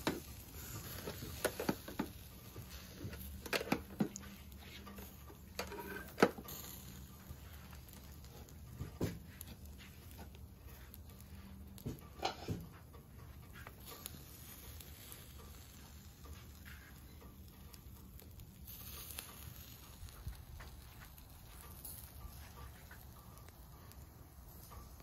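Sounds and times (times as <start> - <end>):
meat sizzling on a grill: 0.0 - 12.7, 13.3 - 25.0.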